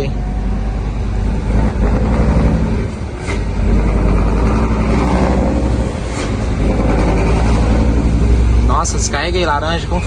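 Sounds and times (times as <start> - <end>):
road noise: 0.0 - 10.0
truck engine drone: 0.0 - 10.0.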